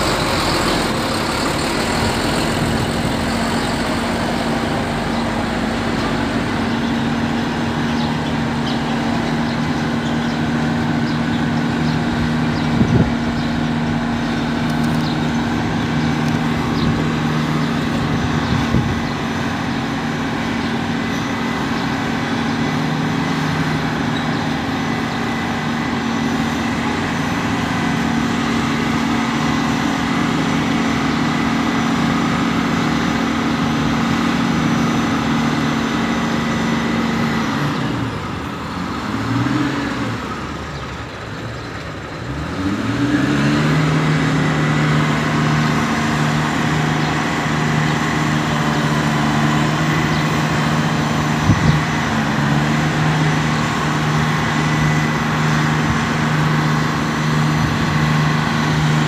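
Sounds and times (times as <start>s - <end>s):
crane diesel engine running: 0.0s - 59.0s.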